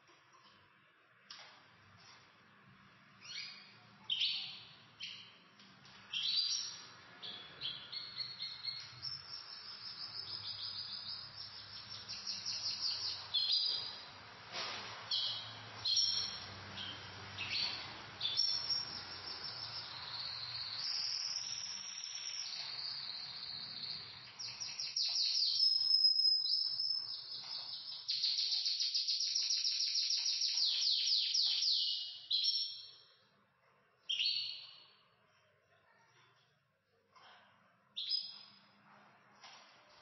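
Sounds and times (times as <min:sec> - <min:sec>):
canaries singing: 0:01.3 - 0:33.2, 0:34.0 - 0:35.0, 0:38.0 - 0:39.7.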